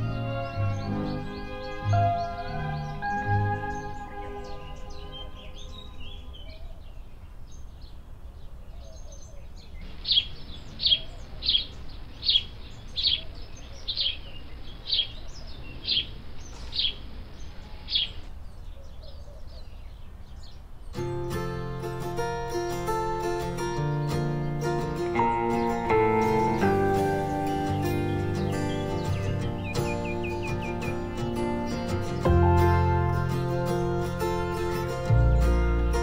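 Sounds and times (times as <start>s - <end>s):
small bird chirping: 0.0s - 36.0s.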